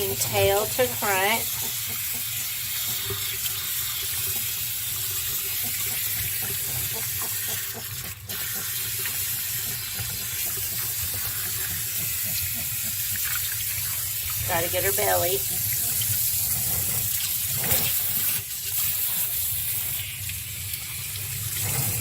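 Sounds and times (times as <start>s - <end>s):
water running from faucet: 0.0s - 22.0s.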